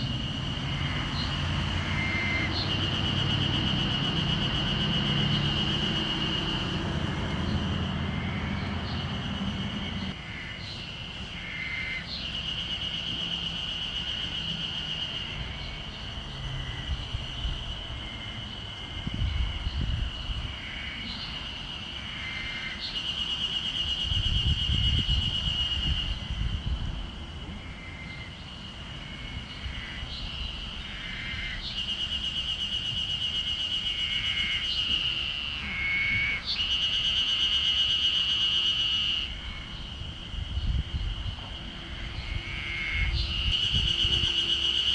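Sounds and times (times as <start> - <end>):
cicadas buzzing in chorus: 0.0 - 44.9.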